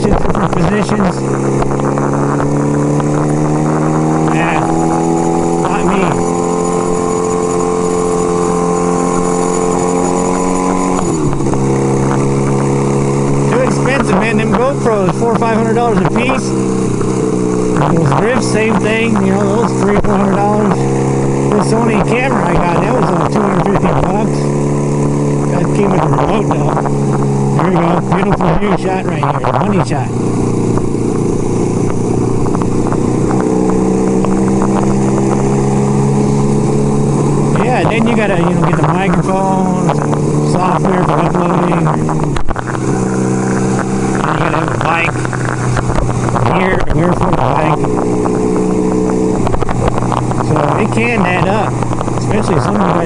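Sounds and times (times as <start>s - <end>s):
motorcycle engine running: 0.0s - 53.0s
wind noise: 0.0s - 53.0s.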